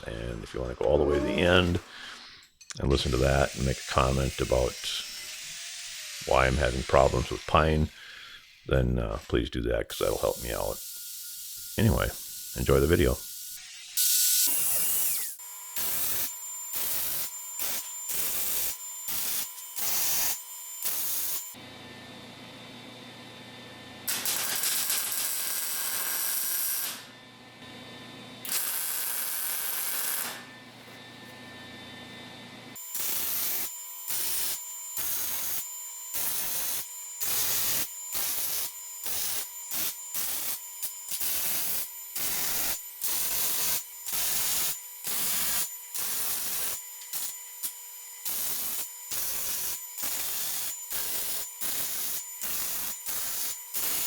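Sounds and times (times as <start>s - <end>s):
welding arc hissing: 3.0s - 21.6s, 24.1s - 27.1s, 28.5s - 30.5s, 32.8s - 54.0s.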